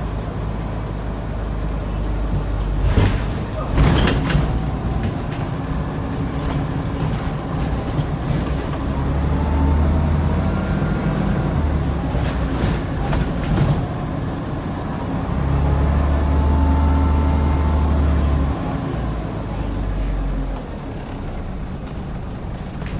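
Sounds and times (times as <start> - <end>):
bus diesel engine droning: 0.0 - 22.9.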